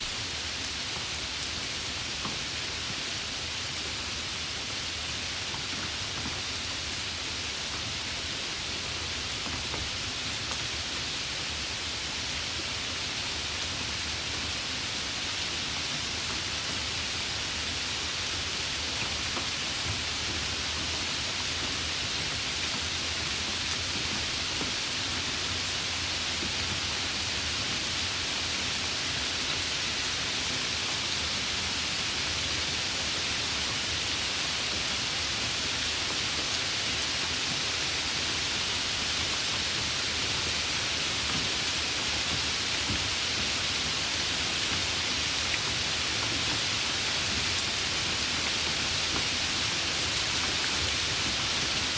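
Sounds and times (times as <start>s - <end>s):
light rain hissing: 0.0s - 51.9s.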